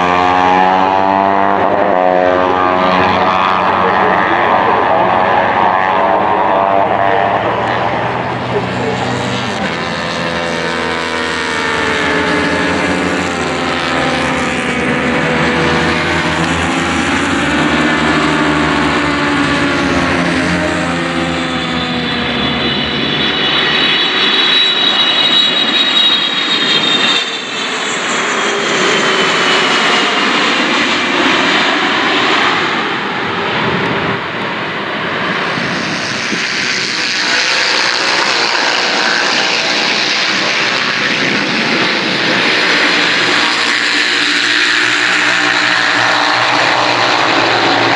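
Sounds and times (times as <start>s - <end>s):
high jet whine: 0.0s - 47.9s
jet aircraft engine rumble: 0.0s - 47.9s.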